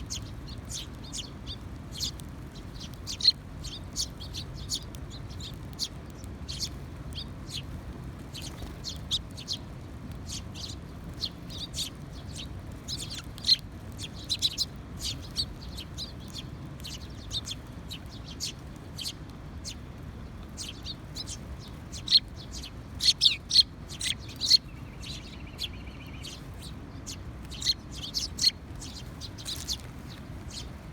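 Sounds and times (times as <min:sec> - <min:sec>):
low background rumble: 0:00.0 - 0:30.9
sparrows chirping: 0:00.0 - 0:30.9.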